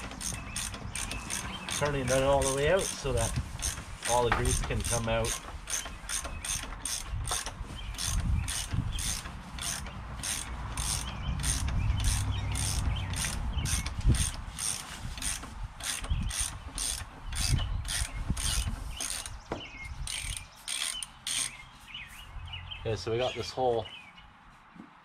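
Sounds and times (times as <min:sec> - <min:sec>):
ratchet wrench clicking: 0:00.0 - 0:19.4, 0:20.1 - 0:21.6.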